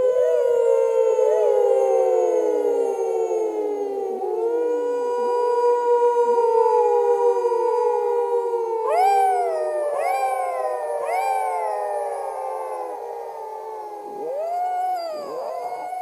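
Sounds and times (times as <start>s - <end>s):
wolf-like howls: 0.0s - 16.0s.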